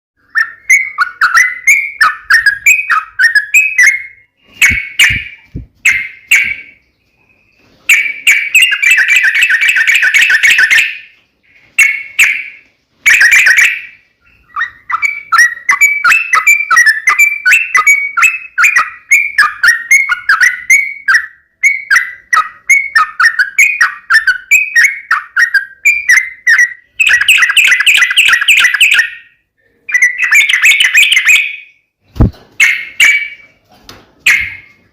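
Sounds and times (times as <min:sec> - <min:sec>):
bulbul chirping: 0:00.2 - 0:33.5.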